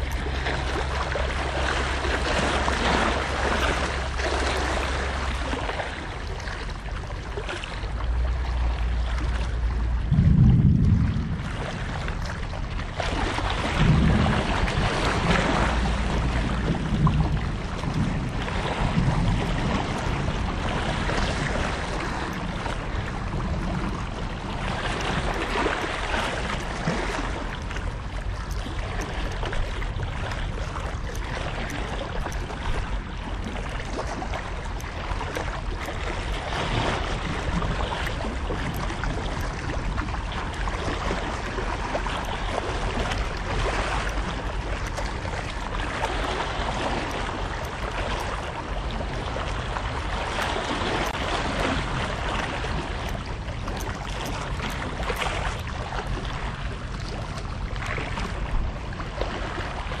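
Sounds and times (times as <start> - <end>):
sea water lapping shore: 0.0 - 60.0
wind rushing over microphone: 7.9 - 60.0.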